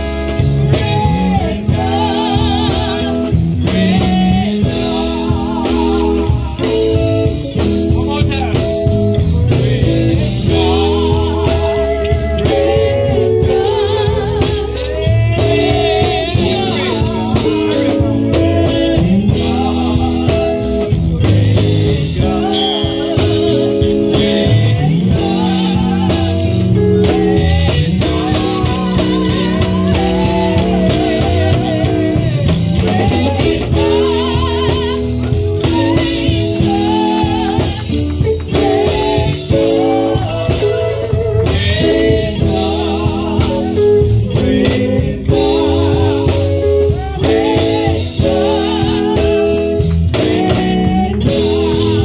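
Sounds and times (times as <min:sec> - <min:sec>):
person singing: 0:00.0 - 0:07.7, 0:08.6 - 0:52.0
electric bass: 0:00.0 - 0:52.0
electric guitar: 0:00.0 - 0:52.0.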